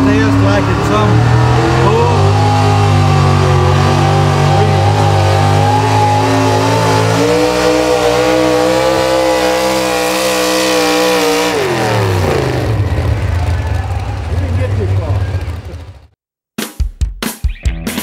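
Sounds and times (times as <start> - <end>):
truck engine revving hard: 0.0 - 16.2.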